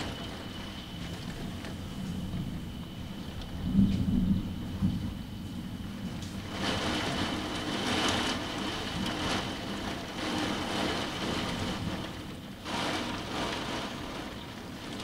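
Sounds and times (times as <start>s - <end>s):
heavy rain on a window: 0.0s - 15.0s.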